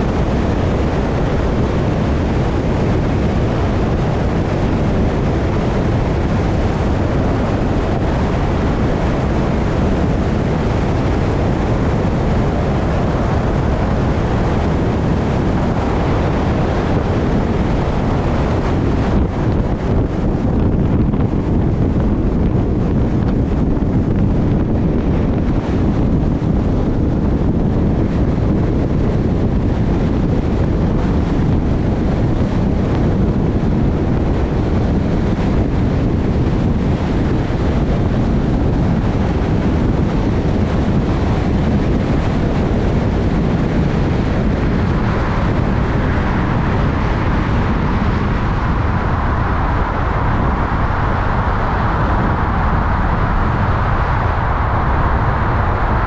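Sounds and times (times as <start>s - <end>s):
moving vehicle rumble: 0.0s - 56.0s
wind noise on microphone: 0.0s - 56.0s.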